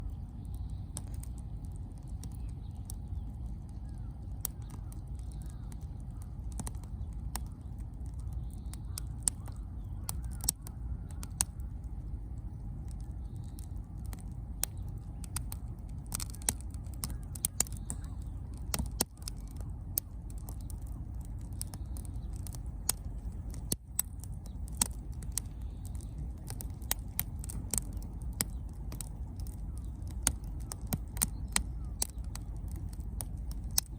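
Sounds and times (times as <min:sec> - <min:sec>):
bonfire crackling and popping: 0:00.0 - 0:33.9
low fire rumble: 0:00.0 - 0:33.9.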